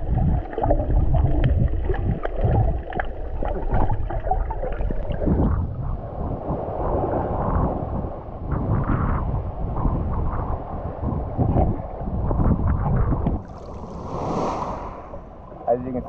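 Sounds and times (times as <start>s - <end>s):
water rushing and gurgling underwater: 0.0s - 15.8s.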